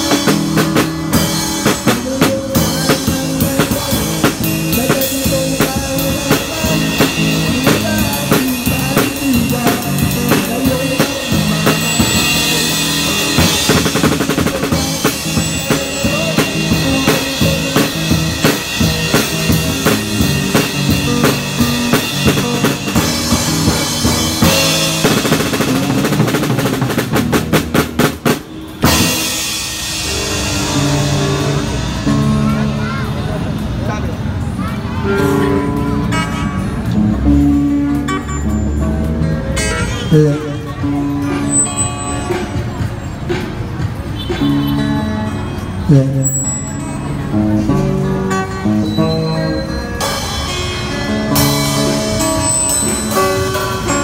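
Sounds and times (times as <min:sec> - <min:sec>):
electric guitar through amplifier: 0:00.0 - 0:44.0
drum kit with cymbals: 0:00.0 - 0:54.0.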